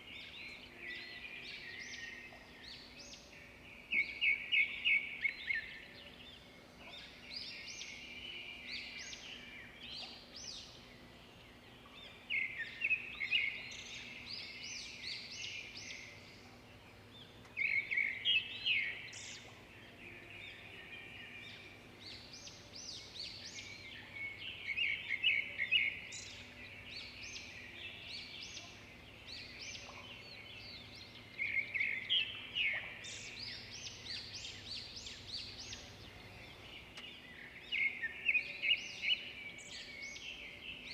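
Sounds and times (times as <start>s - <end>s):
loud bird song phrase: 0.0s - 40.9s
songbirds chirping and trilling: 0.0s - 40.9s.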